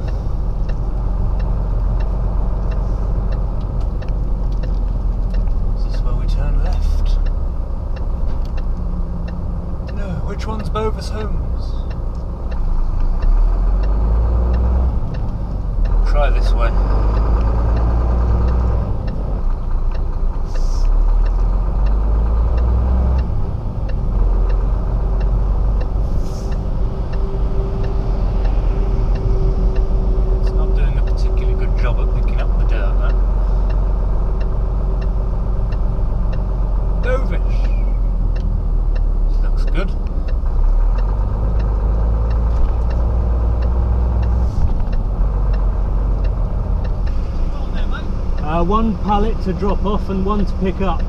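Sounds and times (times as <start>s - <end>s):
diesel lorry engine running: 0.0s - 51.0s
light regular ticking: 0.0s - 51.0s.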